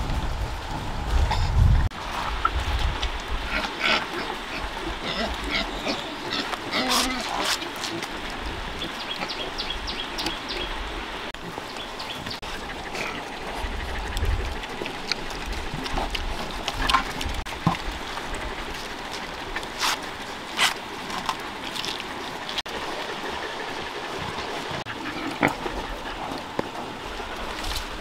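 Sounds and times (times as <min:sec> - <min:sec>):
pig grunting and eating: 0:00.0 - 0:10.7, 0:11.4 - 0:28.0.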